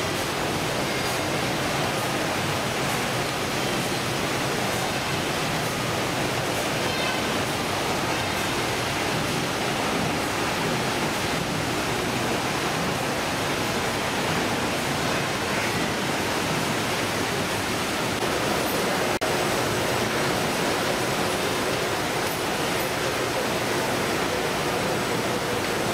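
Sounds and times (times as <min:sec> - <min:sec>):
conveyor machinery: 0:00.0 - 0:25.9
running water: 0:00.0 - 0:25.9.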